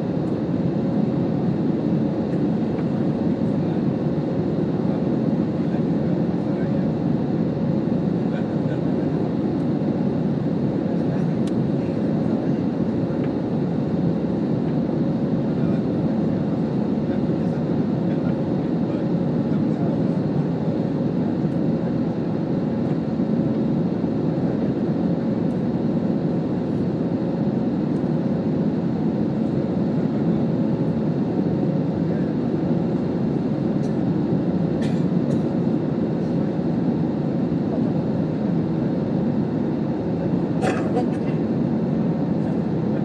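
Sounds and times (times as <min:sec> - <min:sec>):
airliner engine and airflow: 0:00.0 - 0:43.0.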